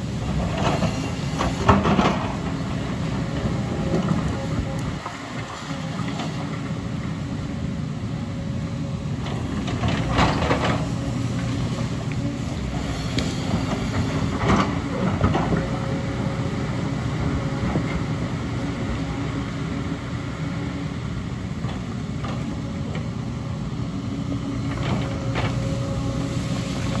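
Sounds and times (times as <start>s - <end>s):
diesel excavator engine running: 0.0s - 27.0s.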